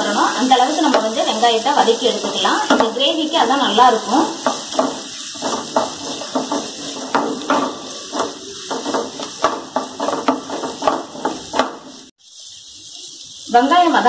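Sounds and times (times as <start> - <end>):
onions sizzling in oil: 0.0 - 14.0
wooden spatula scraping pan: 0.3 - 13.3.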